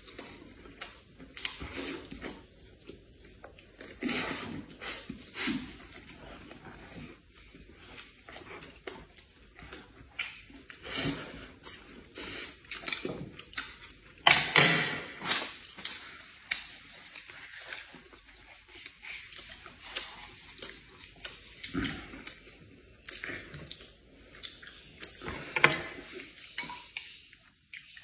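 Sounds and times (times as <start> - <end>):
wet chewing and lip-smacking: 0.0 - 14.2, 15.2 - 28.0.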